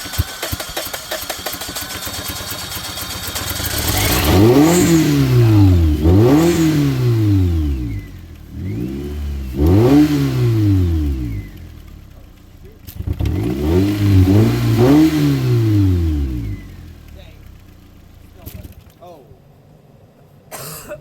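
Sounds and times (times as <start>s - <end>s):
car engine revving: 0.0s - 20.1s
engine running unevenly: 0.0s - 20.4s.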